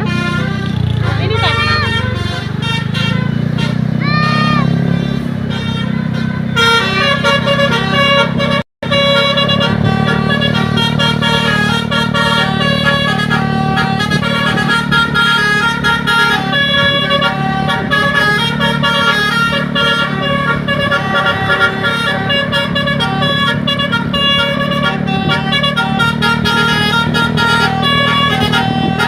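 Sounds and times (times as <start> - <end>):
bus engine running: 0.0 - 29.0
bus horn playing a tune: 0.0 - 29.0.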